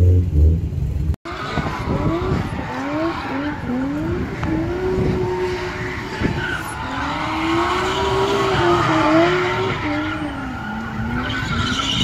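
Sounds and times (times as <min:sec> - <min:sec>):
car engine revving high: 0:00.0 - 0:12.0
tires squealing: 0:01.3 - 0:12.0.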